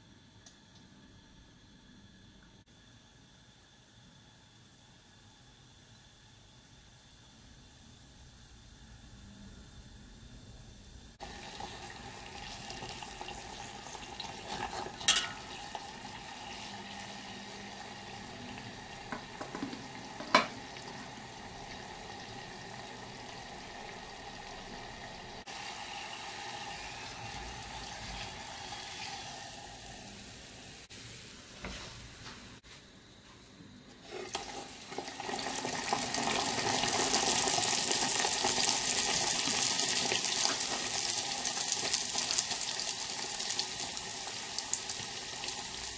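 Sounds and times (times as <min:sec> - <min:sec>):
donut sizzling in hot oil: 0:06.0 - 0:32.1, 0:34.0 - 0:45.9.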